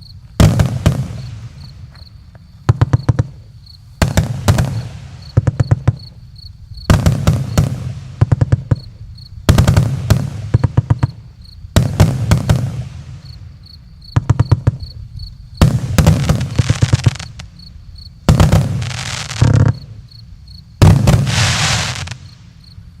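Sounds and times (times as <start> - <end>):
fireworks bangs and crackles: 0.0 - 17.6, 18.2 - 20.1, 20.8 - 22.6.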